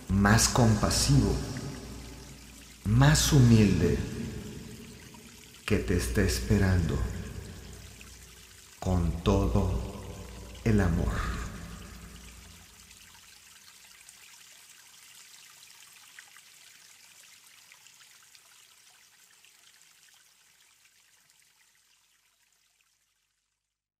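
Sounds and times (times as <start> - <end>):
faint trickling water: 0.0 - 23.8.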